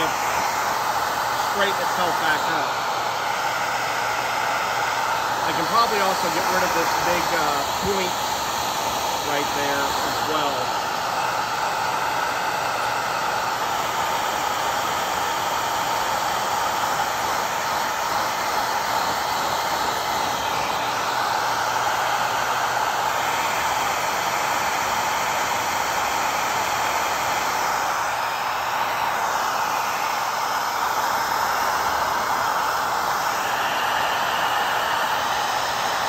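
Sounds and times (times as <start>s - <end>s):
hot-air blower running: 0.0s - 36.0s.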